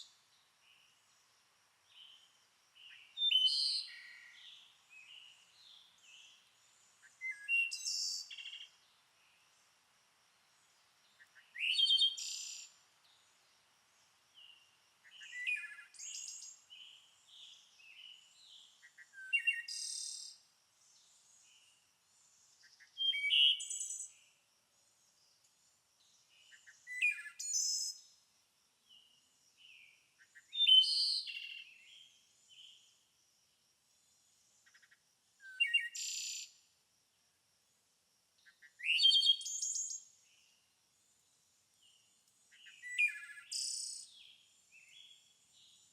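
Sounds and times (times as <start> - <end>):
soft bird chirps: 0.0 - 28.2, 28.8 - 33.1, 34.0 - 36.7, 38.4 - 45.9
songbird singing: 0.0 - 45.9.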